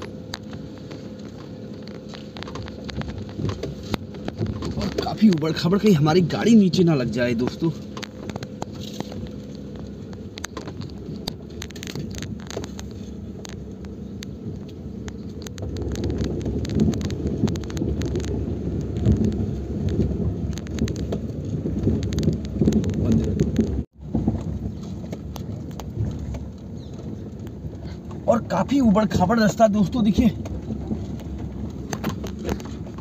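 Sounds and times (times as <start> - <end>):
knocks and rattles: 0.0 - 6.0, 7.4 - 28.3, 30.2 - 33.0
car driving over rough dirt track: 0.0 - 33.0.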